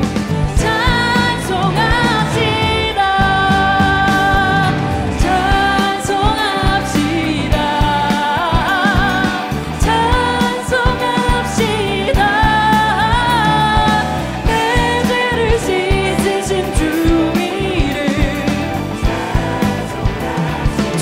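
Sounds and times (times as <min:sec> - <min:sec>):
backing singers: 0:00.0 - 0:21.0
band playing: 0:00.0 - 0:21.0
woman singing with vibrato: 0:00.5 - 0:21.0.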